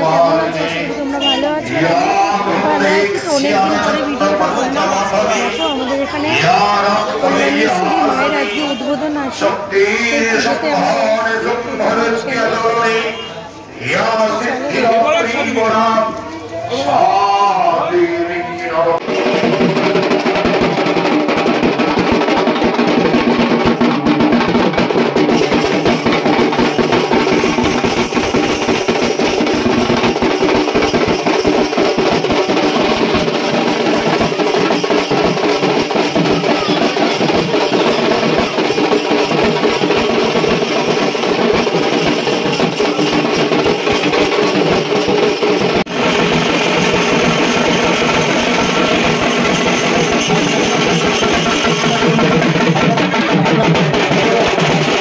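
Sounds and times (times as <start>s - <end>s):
music with fast drumming: 0.0s - 13.3s, 19.0s - 55.0s.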